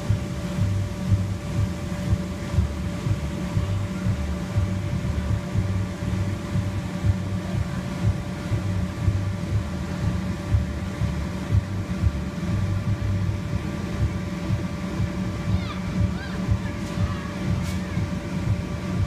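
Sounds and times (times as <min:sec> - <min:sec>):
inflatable blowers droning: 0:00.0 - 0:19.0.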